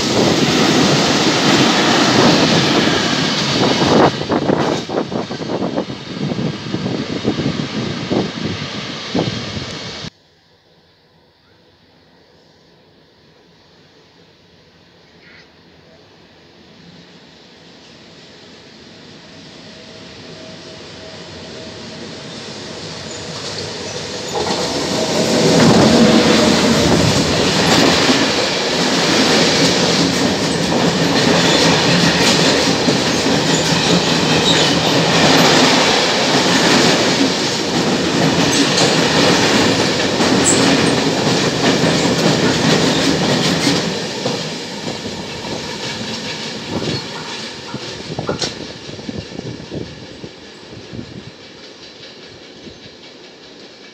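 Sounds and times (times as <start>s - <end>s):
freight train wheels rumbling: 0.0s - 10.2s, 16.7s - 53.9s.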